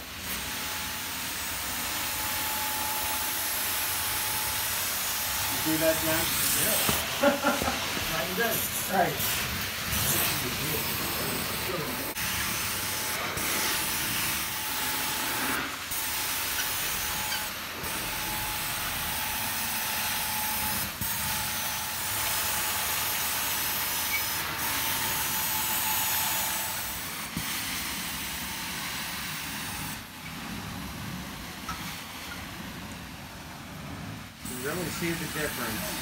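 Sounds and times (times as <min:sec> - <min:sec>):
carpet extractor hiss and whine: 0:00.0 - 0:36.0.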